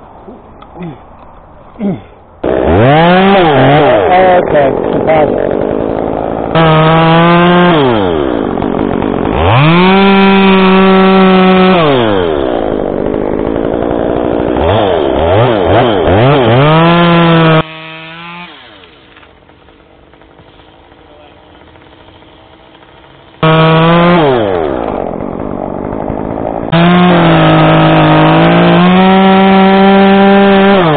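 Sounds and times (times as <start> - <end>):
chainsaw revving: 2.4 - 30.9.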